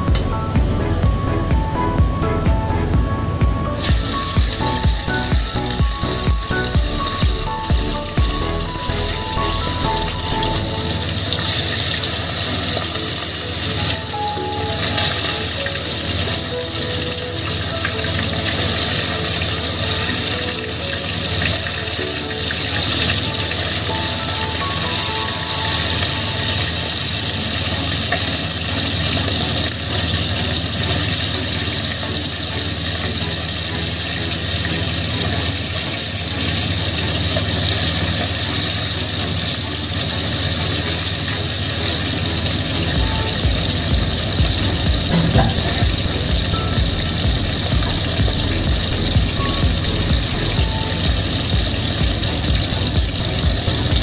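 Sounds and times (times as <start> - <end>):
gas burner hissing: 3.7 - 54.0
fish sizzling in hot oil: 3.8 - 54.0.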